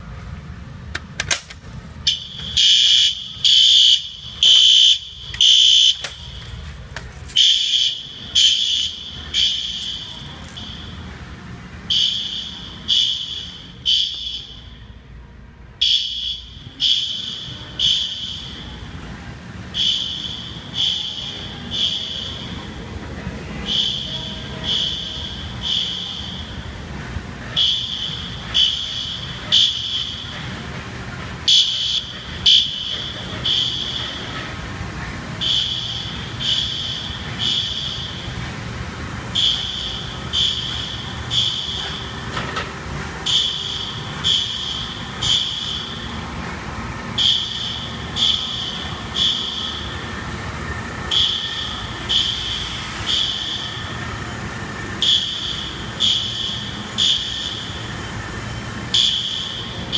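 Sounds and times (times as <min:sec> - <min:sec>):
machinery hum: 0:00.0 - 0:59.9
fire alarm horn beeps: 0:01.9 - 0:15.0, 0:15.8 - 0:59.9.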